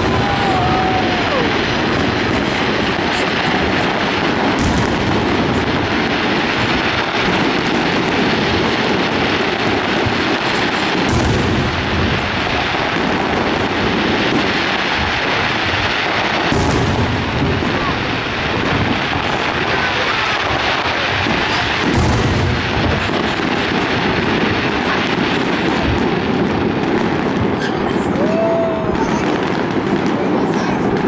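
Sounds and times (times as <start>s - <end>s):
fireworks booming and crackling: 0.0s - 31.0s
sharp fireworks cracks: 0.0s - 31.0s.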